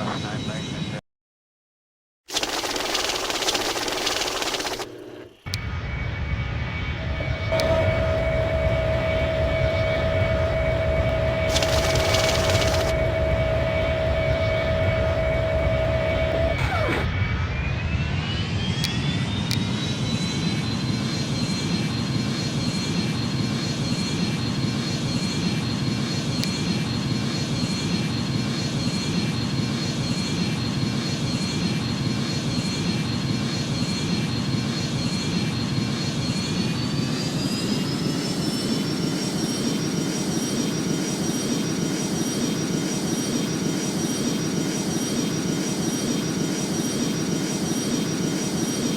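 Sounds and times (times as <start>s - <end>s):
jet engines spooling up: 2.3s - 48.9s.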